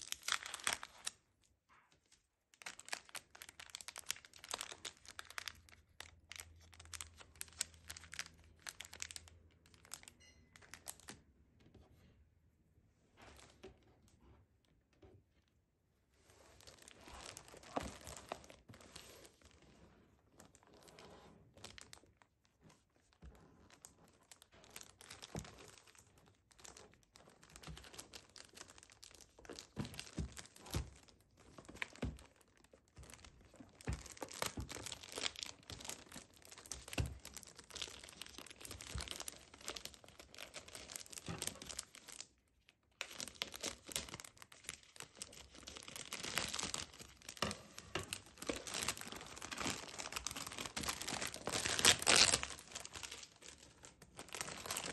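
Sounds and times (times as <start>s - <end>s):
plastic shrink-wrap crinkling: 0.0s - 1.2s, 1.8s - 11.2s, 16.3s - 19.6s, 20.4s - 54.9s.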